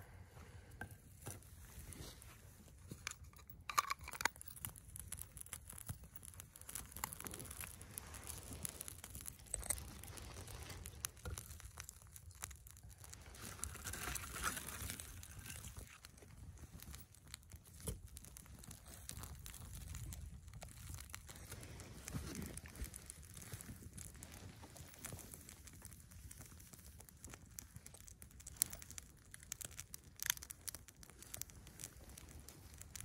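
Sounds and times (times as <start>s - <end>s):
campfire crackling and popping: 0.1s - 33.0s
dry twigs rustling: 1.6s - 33.0s.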